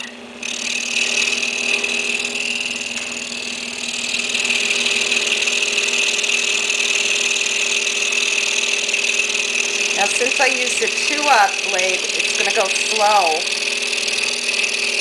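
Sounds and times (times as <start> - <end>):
scroll saw whining: 0.0 - 15.0
saw blade cutting wood: 0.4 - 15.0.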